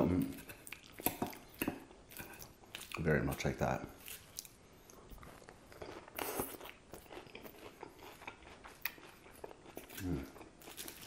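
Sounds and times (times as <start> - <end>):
chewing crunchy salad: 0.0 - 11.0.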